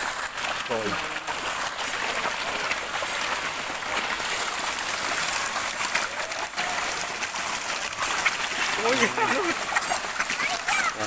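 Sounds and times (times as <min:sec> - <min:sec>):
fish splashing at water surface: 0:00.0 - 0:11.0.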